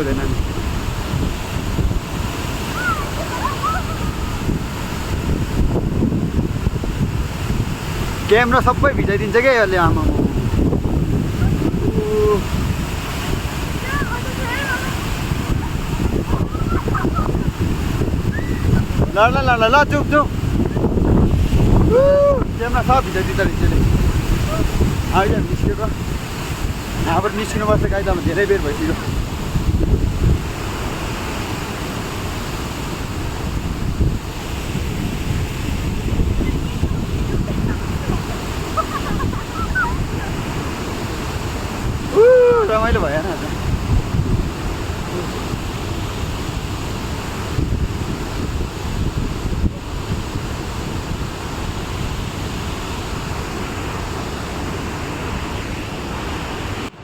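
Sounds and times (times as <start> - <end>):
waterfall roaring: 0.0 - 57.0
wind buffeting microphone: 0.0 - 57.0.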